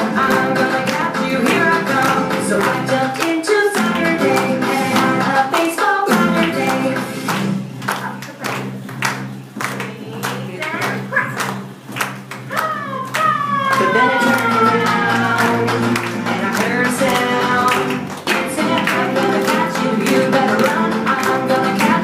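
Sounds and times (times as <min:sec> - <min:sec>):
children's song with guitar: 0:00.0 - 0:22.0
clapping: 0:00.1 - 0:22.0.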